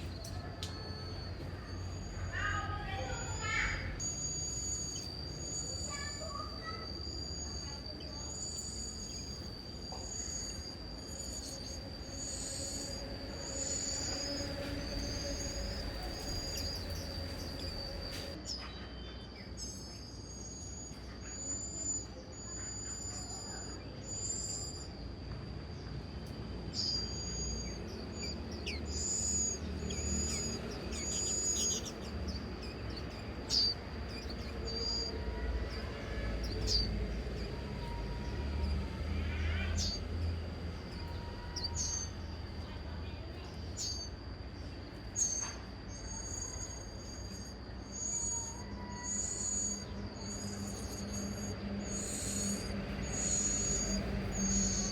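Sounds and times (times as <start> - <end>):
high-pitched insect drone: 0.0 - 54.9
small birds chirping: 0.0 - 54.9.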